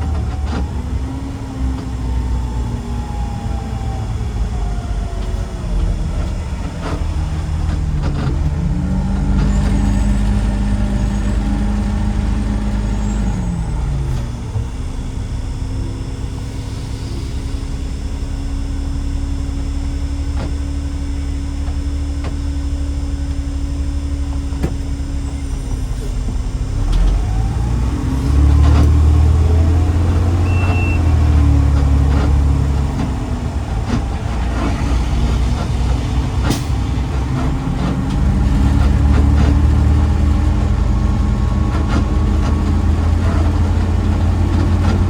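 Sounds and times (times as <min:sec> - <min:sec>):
garbage truck diesel engine: 0:00.0 - 0:45.0.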